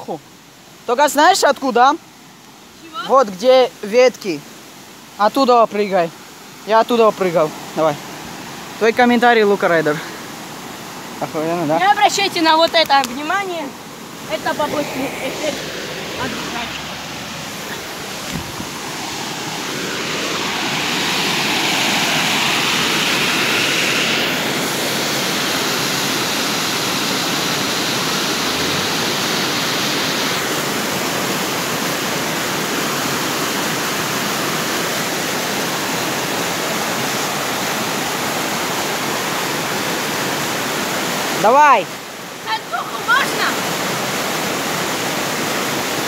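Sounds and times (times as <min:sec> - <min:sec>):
waterfall rushing into pool: 0:00.0 - 0:46.0.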